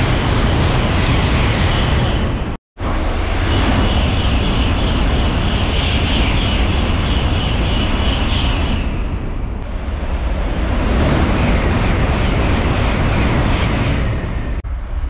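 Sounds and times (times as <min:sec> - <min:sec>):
bullet train rushing roar: 0:00.0 - 0:15.0.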